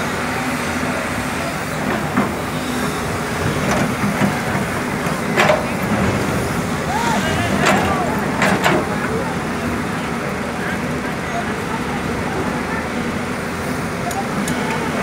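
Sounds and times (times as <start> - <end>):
excavator diesel engines: 0.0 - 15.0.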